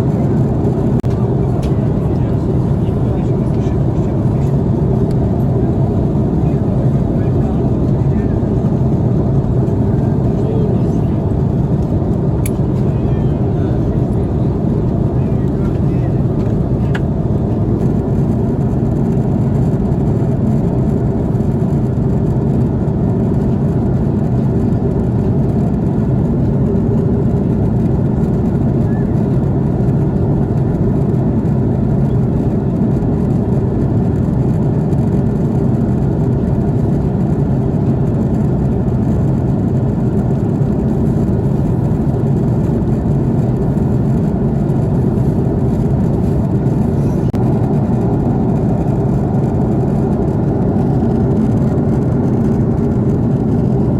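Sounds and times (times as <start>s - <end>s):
airliner cabin engine drone: 0.0s - 53.9s.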